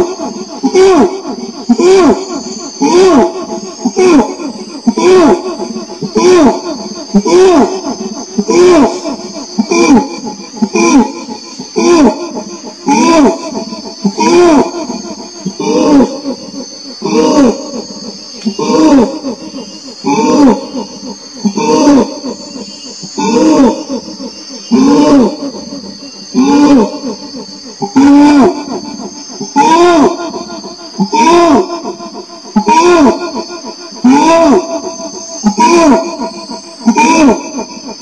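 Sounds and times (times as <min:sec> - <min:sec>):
orangutan hooting calls: 0:00.0 - 0:38.0
steady high hiss: 0:00.0 - 0:38.0.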